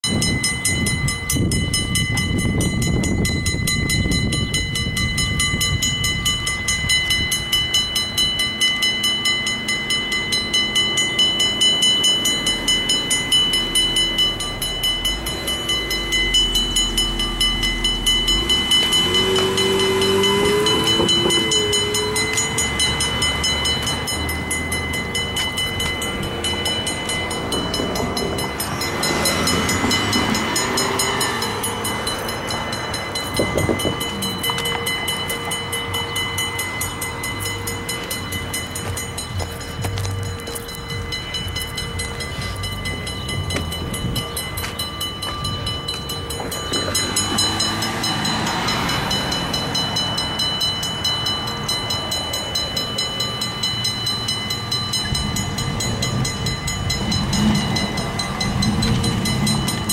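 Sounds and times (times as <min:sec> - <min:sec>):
railroad crossing bell ringing: 0:00.0 - 0:59.9.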